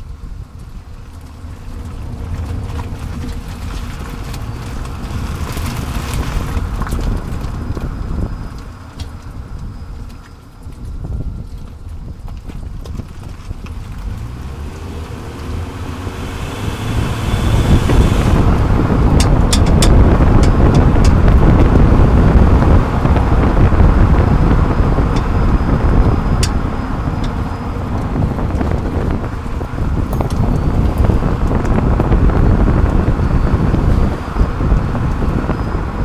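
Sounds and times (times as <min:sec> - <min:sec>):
road noise under moving car: 0:00.0 - 0:36.0
wind buffeting microphone: 0:00.0 - 0:36.0.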